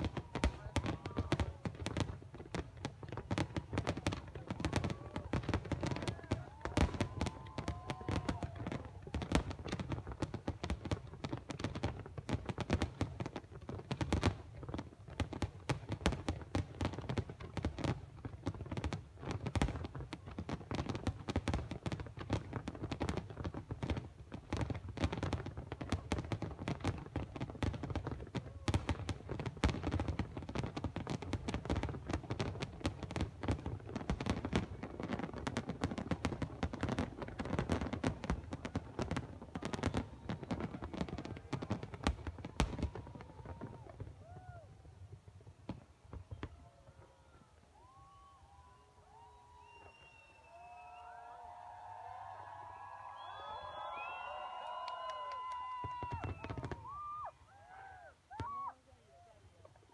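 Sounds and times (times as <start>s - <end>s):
fireworks bangs and cracks: 0.0s - 57.2s.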